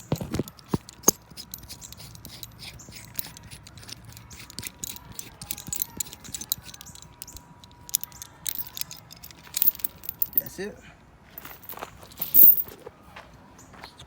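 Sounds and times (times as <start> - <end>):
metal chain clinking and rattling: 0.0 - 10.6, 11.4 - 12.7.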